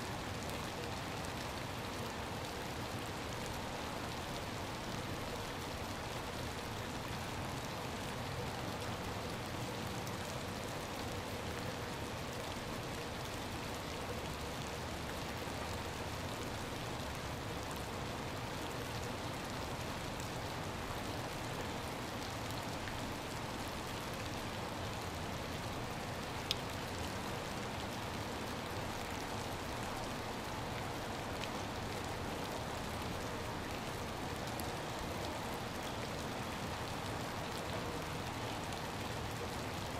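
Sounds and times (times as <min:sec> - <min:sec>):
icy rain on puddles and grass: 0:00.0 - 0:39.9.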